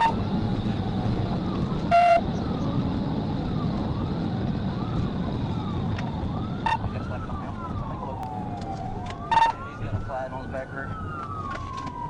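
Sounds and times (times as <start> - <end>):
police siren wailing: 0.0 - 12.0
vehicle and road rumble: 0.0 - 12.0.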